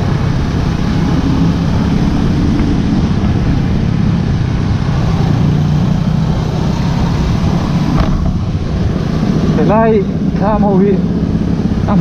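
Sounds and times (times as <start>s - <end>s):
wind rushing over camera: 0.0s - 11.9s
motorcycle engine running: 0.0s - 12.0s.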